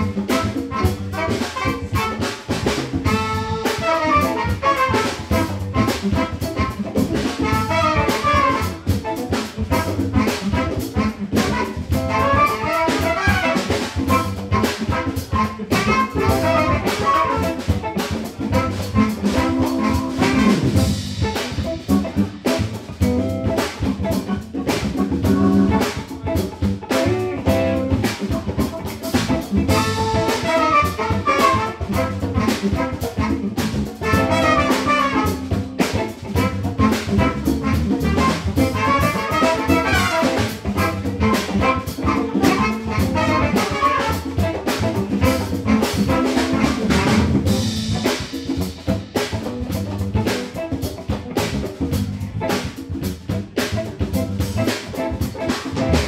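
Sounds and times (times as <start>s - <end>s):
bass: 0.0s - 56.0s
drum kit: 0.0s - 56.0s
keyboards: 0.0s - 56.0s
saxophone: 0.0s - 56.0s
trumpet: 0.0s - 56.0s.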